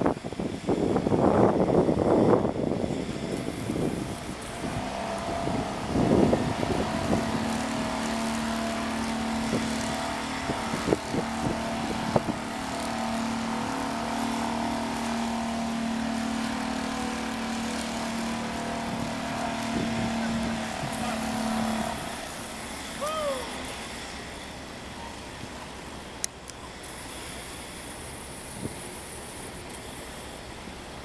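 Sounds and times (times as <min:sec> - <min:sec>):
engine hum: 0:00.0 - 0:31.0.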